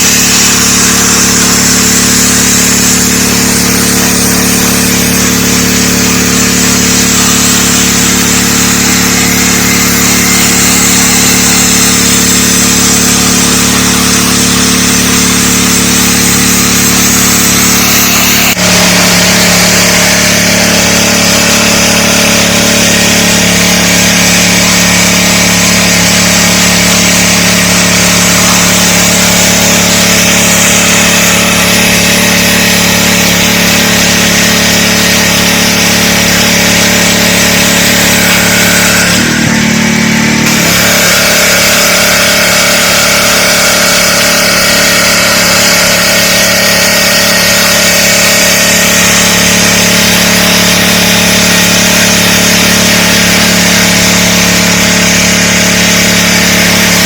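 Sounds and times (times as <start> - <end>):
high-pressure water spray hissing: 0.0 - 57.0
pressure washer engine drone: 0.0 - 57.0.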